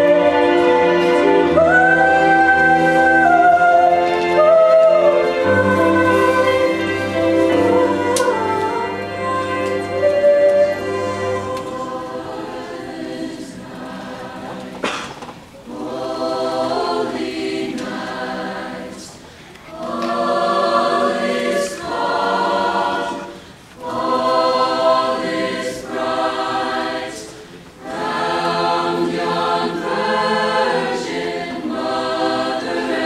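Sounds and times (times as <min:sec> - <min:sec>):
choir singing sustained chords: 0:00.0 - 0:15.0, 0:15.6 - 0:33.0.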